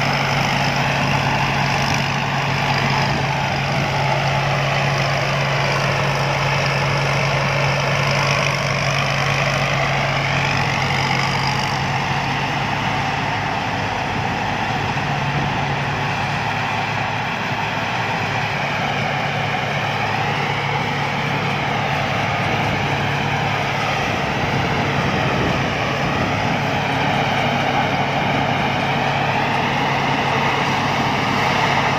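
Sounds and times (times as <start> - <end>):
combine harvester running: 0.0 - 31.9.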